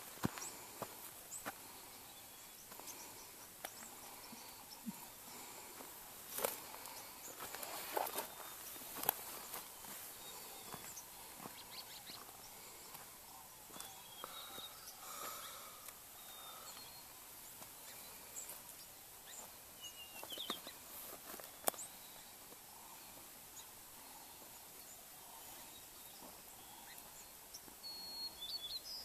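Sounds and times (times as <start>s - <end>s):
outdoor hiss: 0.0s - 29.0s.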